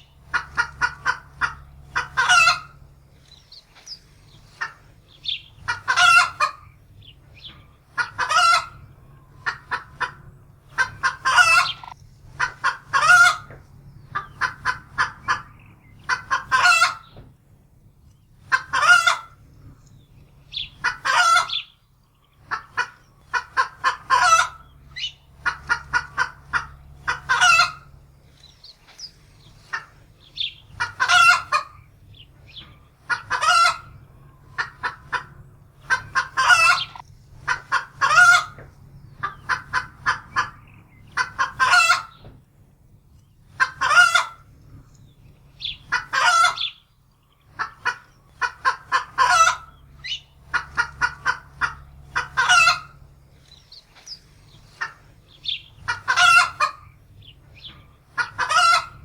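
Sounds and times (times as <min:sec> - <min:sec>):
hen cackling in alarm: 0:00.0 - 0:02.9, 0:04.0 - 0:17.2, 0:18.4 - 0:19.4, 0:20.5 - 0:21.8, 0:22.4 - 0:42.2, 0:43.5 - 0:44.5, 0:45.5 - 0:53.2, 0:53.8 - 0:59.0.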